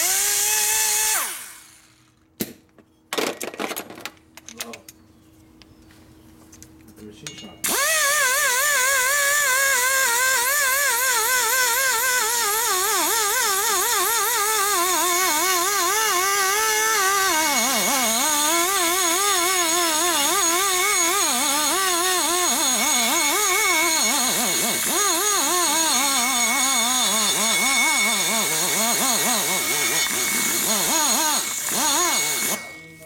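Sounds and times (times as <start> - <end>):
die grinder whining: 0.0 - 2.2, 7.6 - 33.0.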